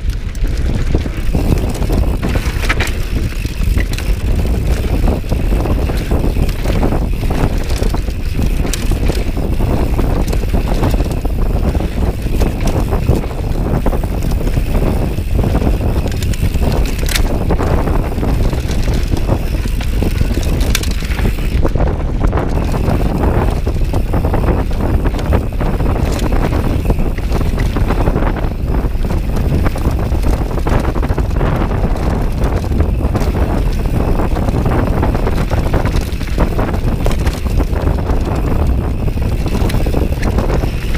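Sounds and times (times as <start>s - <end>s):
bike clattering over stones: 0.0s - 40.9s
tyres rumbling on dirt trail: 0.0s - 40.9s
wind buffeting microphone: 0.0s - 40.9s.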